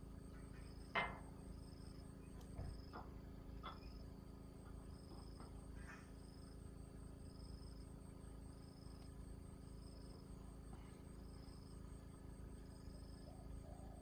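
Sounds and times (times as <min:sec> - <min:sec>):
insect chirping: 0:00.0 - 0:14.0
low hum: 0:00.0 - 0:14.0.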